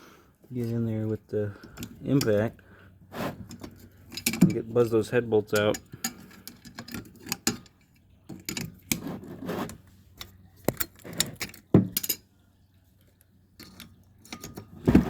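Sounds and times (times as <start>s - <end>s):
metal tools clinking and knocking: 0.6s - 2.6s, 3.3s - 12.3s, 13.6s - 15.0s.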